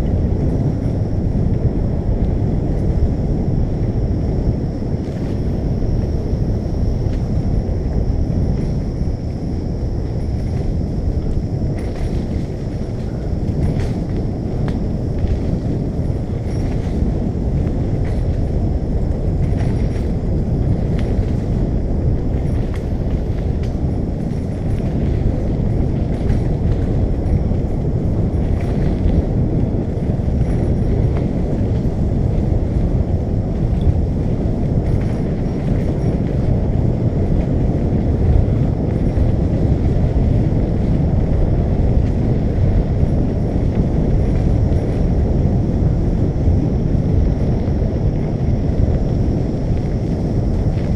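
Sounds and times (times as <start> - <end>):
bicycle tyres rolling: 0.0 - 50.9
wind buffeting microphone: 0.0 - 50.9.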